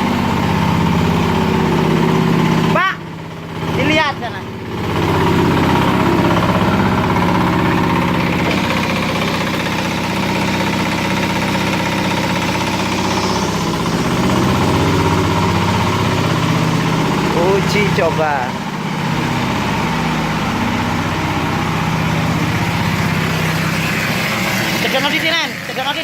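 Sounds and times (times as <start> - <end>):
spraying machine engine running: 0.0 - 26.0.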